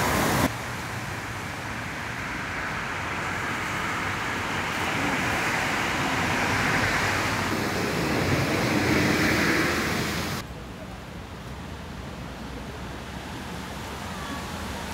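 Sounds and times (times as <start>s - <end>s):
wet street rushing hiss: 0.0s - 14.9s.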